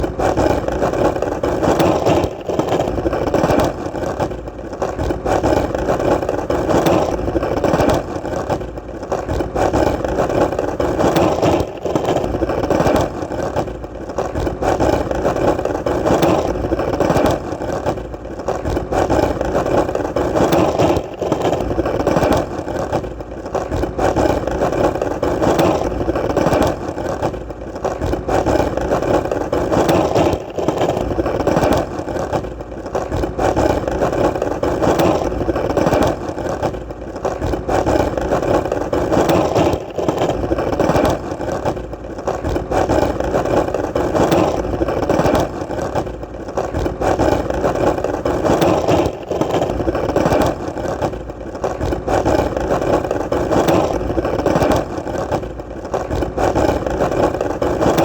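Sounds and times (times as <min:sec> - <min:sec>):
skateboard wheels rolling: 0:00.0 - 0:58.0.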